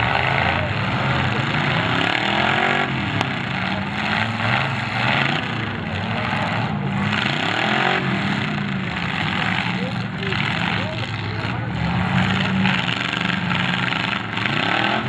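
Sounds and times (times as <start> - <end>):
car engines revving: 0.0 - 15.0
loud engine roar: 0.0 - 15.0.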